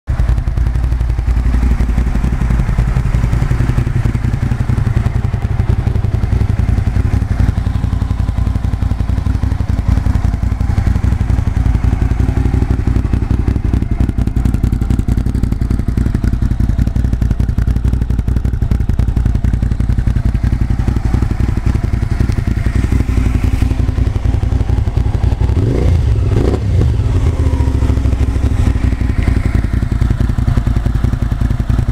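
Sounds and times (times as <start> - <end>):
motorcycle engine idling: 0.1 - 31.9.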